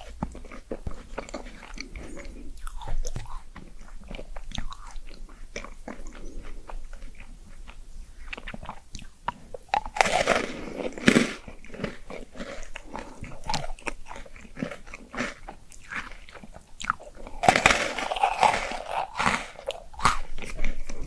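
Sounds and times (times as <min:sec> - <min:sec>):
wet mouth clicks: 0:00.0 - 0:11.5, 0:12.6 - 0:14.4, 0:15.5 - 0:21.0
biting and chewing crunchily: 0:00.0 - 0:21.0.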